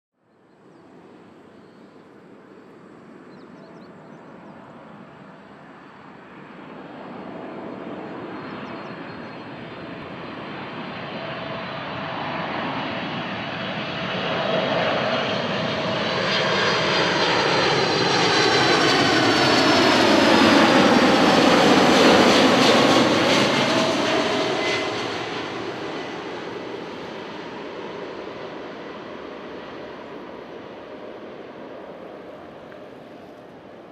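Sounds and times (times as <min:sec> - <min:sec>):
jet engines roaring: 0:03.9 - 0:33.9.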